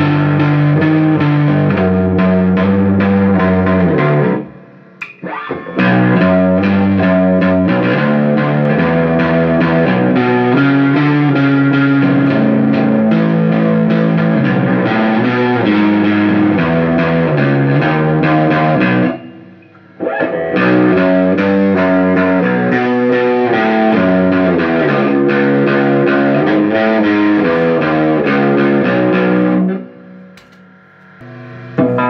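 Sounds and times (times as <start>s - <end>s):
electric guitar riff: 0.0s - 32.0s.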